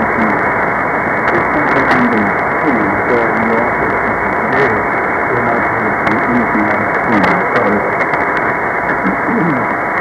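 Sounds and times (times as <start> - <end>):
faint radio voice: 0.0 - 0.5, 1.3 - 8.0, 9.0 - 10.0
radio hiss: 0.0 - 10.0
static crackles: 0.0 - 10.0.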